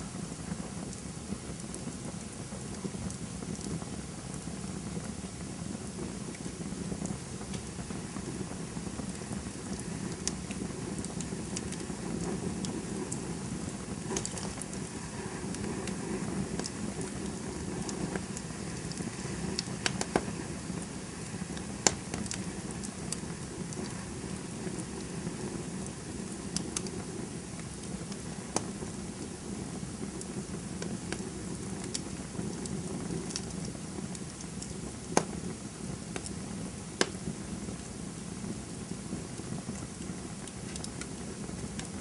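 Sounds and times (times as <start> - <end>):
burning wood crackling and popping: 0.0 - 42.0
campfire flames rumbling: 0.0 - 42.0.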